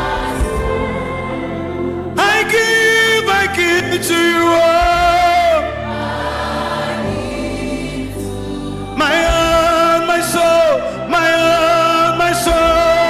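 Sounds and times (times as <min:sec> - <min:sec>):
backing band: 0:00.0 - 0:13.0
group singing gospel song: 0:00.0 - 0:13.0.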